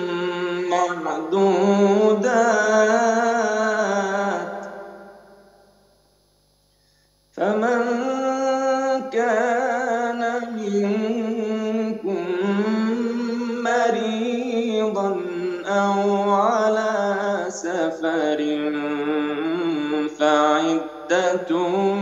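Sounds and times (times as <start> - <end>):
man chanting recitation: 0.0 - 5.1, 7.4 - 22.0.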